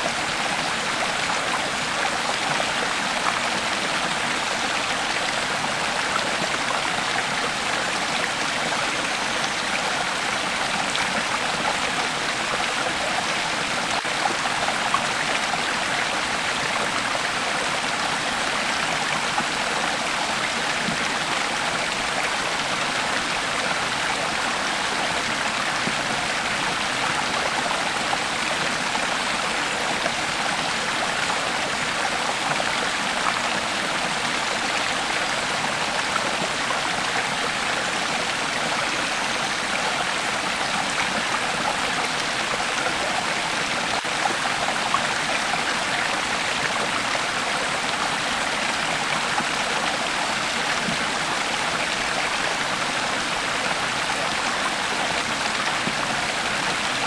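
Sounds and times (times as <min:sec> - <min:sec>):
creek water flowing over stones: 0:00.0 - 0:57.0.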